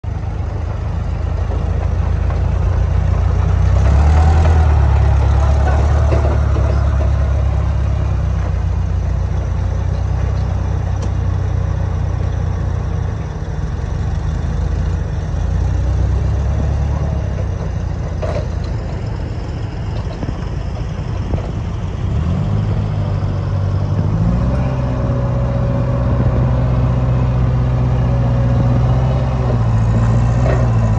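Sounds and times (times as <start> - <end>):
forklift engine running: 0.0 - 30.9.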